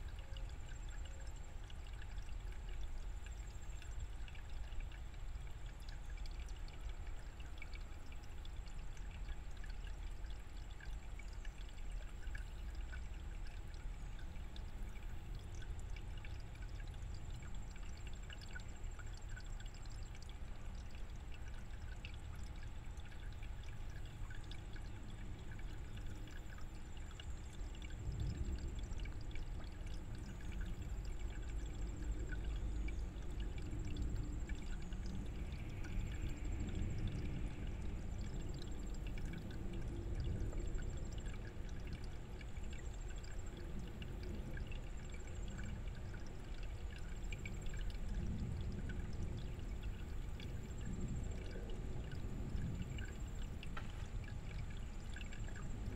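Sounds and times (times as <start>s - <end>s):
stream trickling over rocks: 0.0s - 55.9s.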